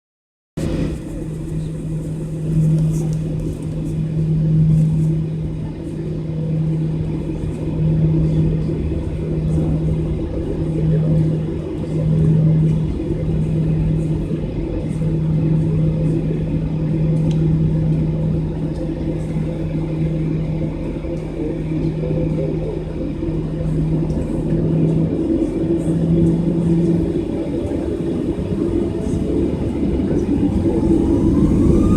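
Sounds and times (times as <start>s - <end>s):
jet engines running: 0.6s - 31.9s.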